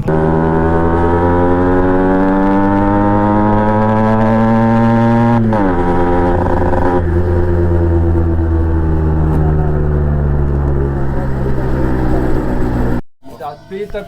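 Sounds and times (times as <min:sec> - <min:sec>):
two-stroke engine revving down: 0:00.0 - 0:13.0.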